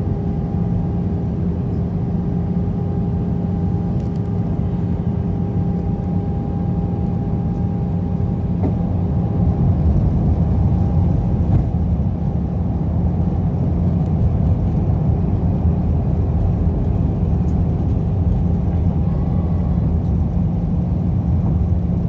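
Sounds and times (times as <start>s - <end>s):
airplane cabin rumble: 0.0s - 22.0s
jet engines humming: 0.0s - 22.0s.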